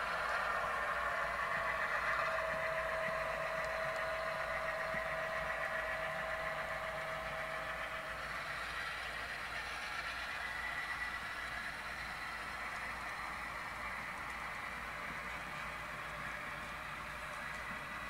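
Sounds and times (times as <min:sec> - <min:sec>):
model locomotive engine sound: 0:00.0 - 0:18.0.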